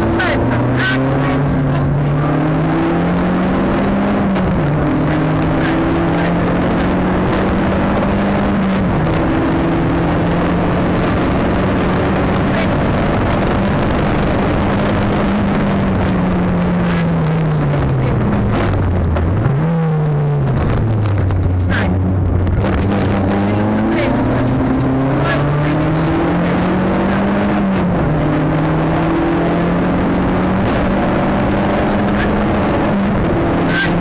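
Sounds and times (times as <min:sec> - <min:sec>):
car engine accelerating: 0:00.0 - 0:34.0
road and wind noise: 0:00.0 - 0:34.0.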